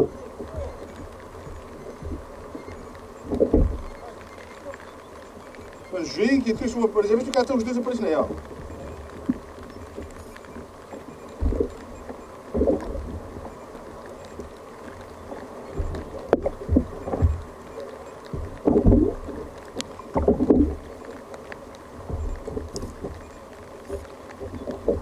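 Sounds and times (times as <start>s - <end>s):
sharp clicks: 0.0s - 25.0s
water sloshing against kayak hull: 0.0s - 25.0s.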